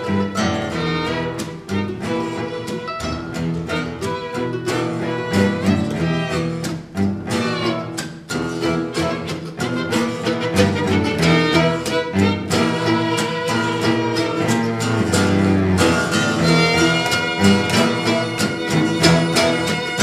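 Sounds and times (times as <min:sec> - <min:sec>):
bowed violin: 0:00.0 - 0:20.0
cello: 0:00.0 - 0:20.0
mandolin: 0:00.0 - 0:20.0
strummed acoustic guitar: 0:00.0 - 0:20.0.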